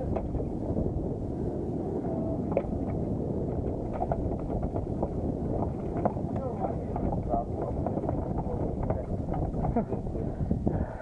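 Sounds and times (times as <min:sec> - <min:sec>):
boat noise on water: 0:00.0 - 0:11.0
wind buffeting microphone: 0:00.0 - 0:11.0.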